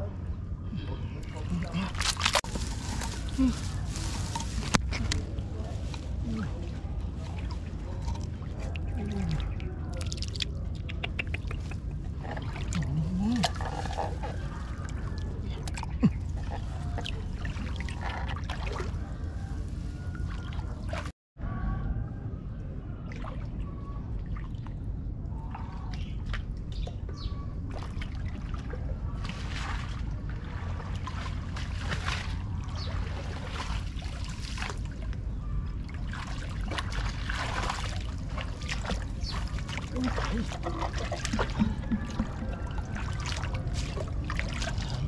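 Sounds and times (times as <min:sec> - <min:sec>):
low rumble: 0:00.0 - 0:45.0
water splashing and trickling: 0:00.8 - 0:21.1, 0:23.0 - 0:45.0.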